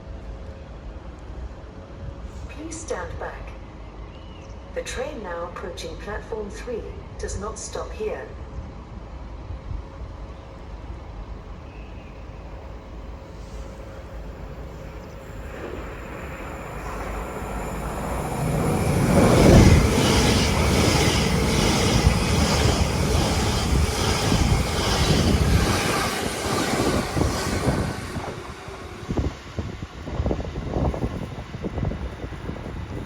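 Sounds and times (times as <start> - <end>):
train rumbling past: 0.0 - 33.0.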